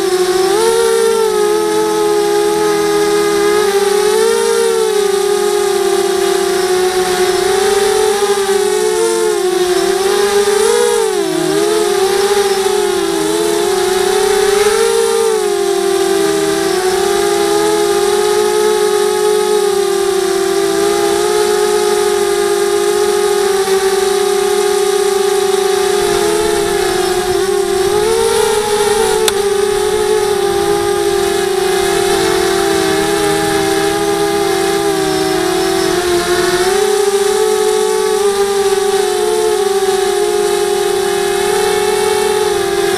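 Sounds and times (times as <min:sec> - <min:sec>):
quadcopter motors whining: 0:00.0 - 0:42.9.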